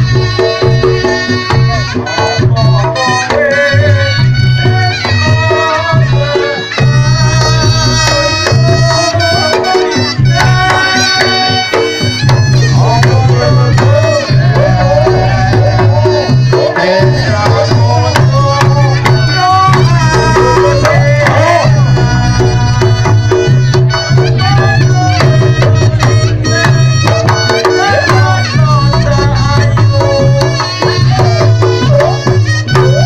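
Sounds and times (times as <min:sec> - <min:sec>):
hand drums: 0:00.0 - 0:33.0
reedy wavering melody: 0:03.9 - 0:33.0.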